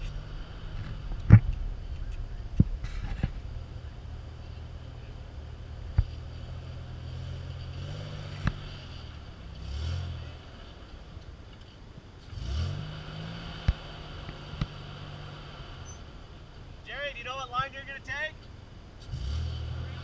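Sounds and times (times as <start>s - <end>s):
truck engine revving: 0.0s - 11.6s, 12.2s - 16.8s, 19.0s - 20.0s.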